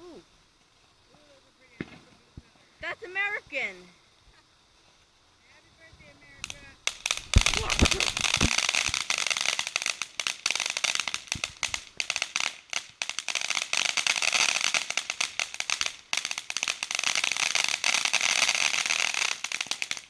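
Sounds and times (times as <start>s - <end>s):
firework crackling pops: 0.0s - 20.0s.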